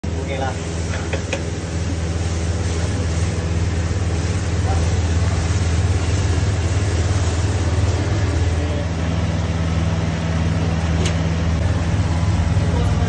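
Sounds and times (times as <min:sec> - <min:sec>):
low mechanical hum: 0:00.0 - 0:13.0
noisy wash: 0:00.0 - 0:13.0.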